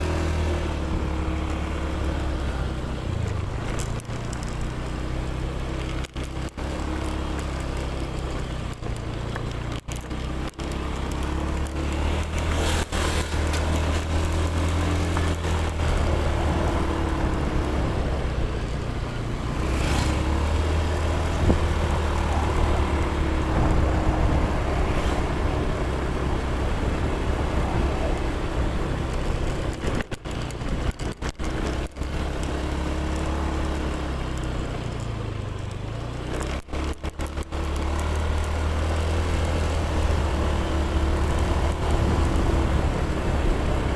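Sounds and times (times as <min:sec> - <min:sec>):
road noise: 0:00.0 - 0:43.9
vehicle engine running: 0:00.0 - 0:43.9.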